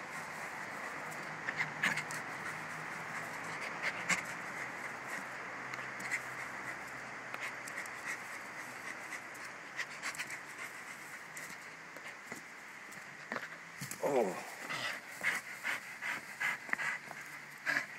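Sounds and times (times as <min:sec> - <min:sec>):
dog panting: 0:00.1 - 0:12.3, 0:14.5 - 0:17.9.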